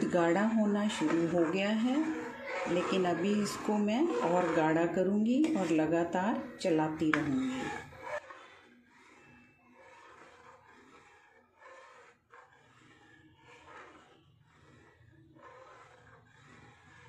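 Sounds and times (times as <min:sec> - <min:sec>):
ladle scraping metal pan: 0:00.0 - 0:17.0.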